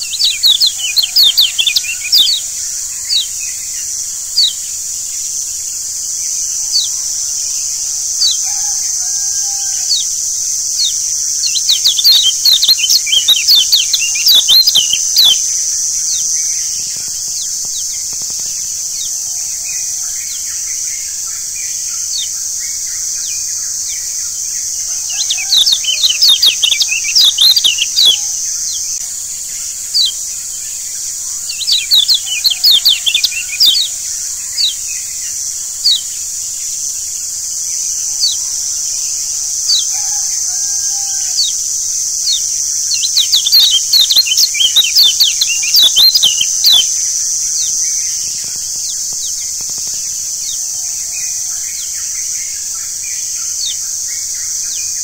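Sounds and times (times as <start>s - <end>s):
small bird chirping: 0.0s - 36.9s, 37.8s - 49.7s
steady high hiss: 0.0s - 55.0s.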